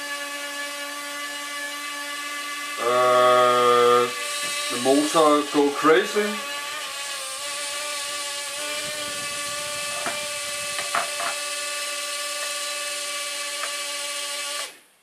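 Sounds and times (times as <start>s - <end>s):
quadcopter motors whining: 0.0s - 14.8s.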